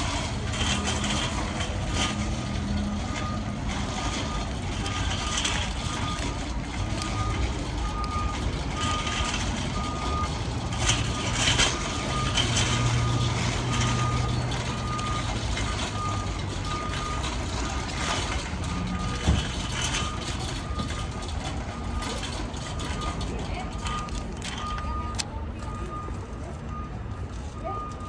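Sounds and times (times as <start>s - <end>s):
low engine rumble: 0.0s - 28.0s
reversing alarm beeping: 0.0s - 28.0s.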